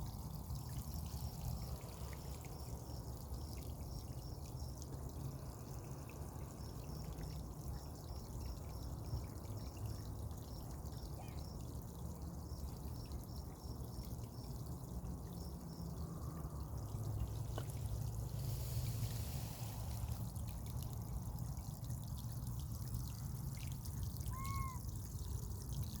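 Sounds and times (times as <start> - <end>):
water trickling and pouring: 0.0 - 26.0.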